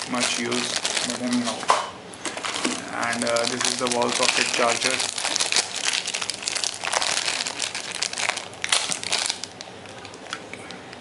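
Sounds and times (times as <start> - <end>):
packaging crinkling: 0.0 - 10.5.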